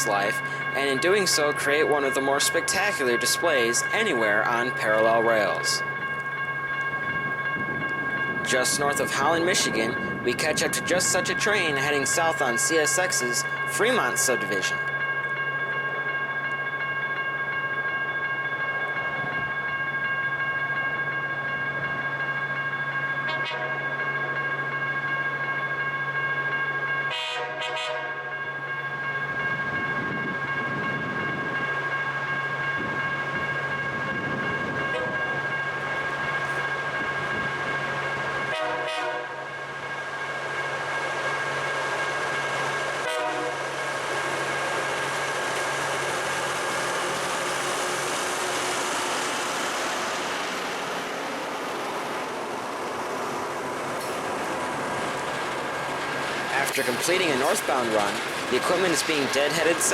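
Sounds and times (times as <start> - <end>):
high warning tones: 0.0 - 59.9
train engines droning: 0.0 - 59.9
wheels rumbling on rail: 0.0 - 59.9.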